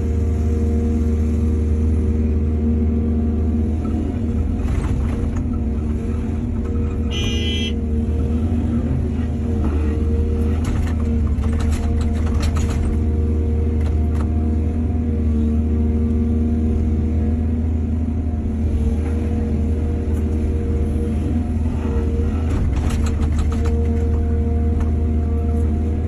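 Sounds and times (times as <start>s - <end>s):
diesel excavator engine running: 0.0s - 26.0s.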